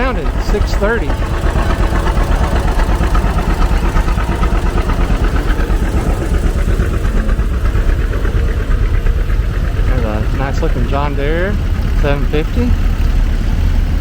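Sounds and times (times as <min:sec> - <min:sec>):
tractor engine pulsing: 0:00.0 - 0:14.0.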